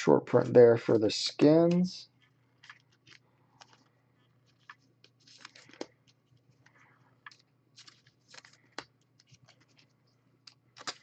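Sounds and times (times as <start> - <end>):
cards rustling into plastic sleeves: 0.3 - 11.0.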